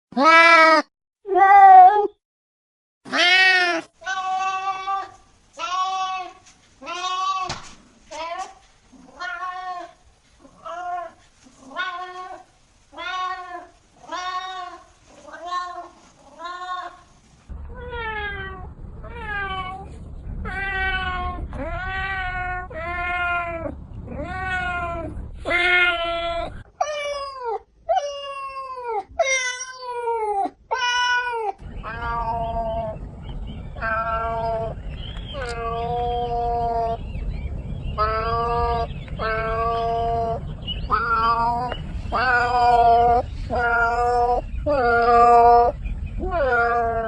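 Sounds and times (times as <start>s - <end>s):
cat meowing: 3.1s - 17.0s, 17.7s - 33.0s, 33.8s - 37.0s, 38.0s - 47.0s
low rumbling: 4.3s - 27.2s, 31.6s - 47.0s.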